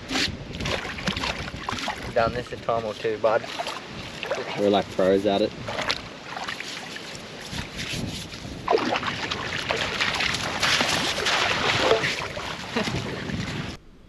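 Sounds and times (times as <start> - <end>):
river water splashing: 0.1 - 13.8.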